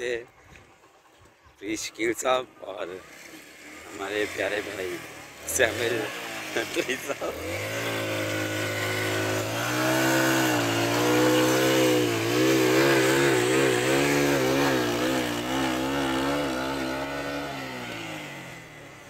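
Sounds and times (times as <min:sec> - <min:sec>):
motorcycle engine revving: 0:02.3 - 0:19.0.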